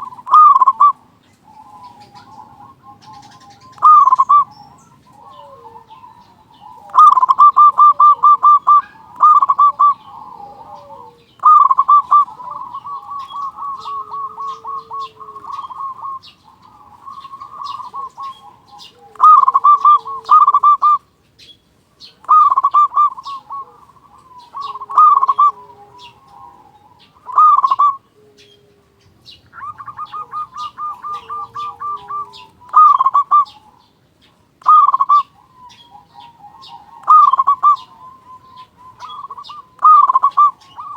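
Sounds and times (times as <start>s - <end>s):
dove cooing in trilled phrases: 0.0s - 40.9s.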